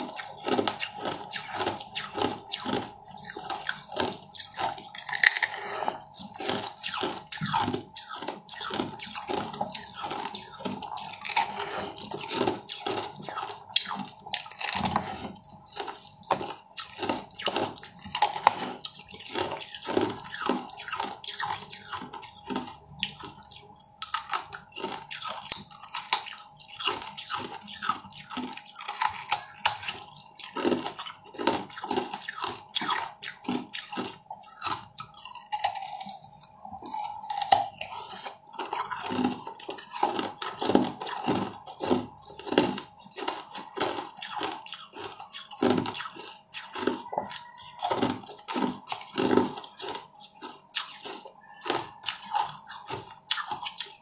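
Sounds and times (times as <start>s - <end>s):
crackling and wet crunching: 0.0s - 54.0s.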